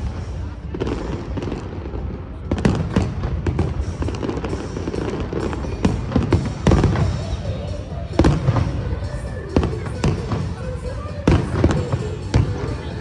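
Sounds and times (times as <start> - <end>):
fireworks bursting with sharp bangs: 0.0 - 13.0
music playing: 0.0 - 13.0.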